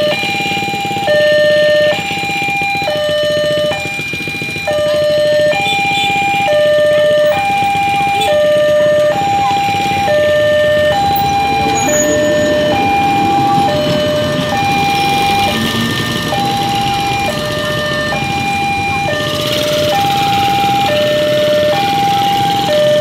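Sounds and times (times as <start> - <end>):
train rumbling over crossing: 0.0 - 23.0
two-tone crossing alarm: 0.0 - 23.0.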